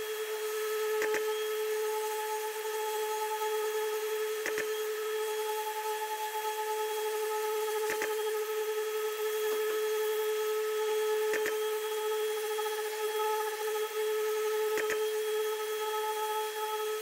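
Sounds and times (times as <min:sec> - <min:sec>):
orbital sander running: 0:00.0 - 0:17.0.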